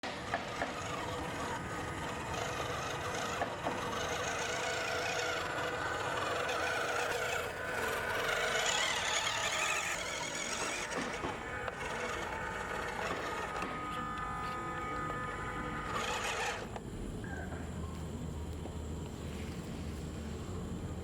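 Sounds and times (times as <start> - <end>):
electric motor whining: 0.0 - 17.2.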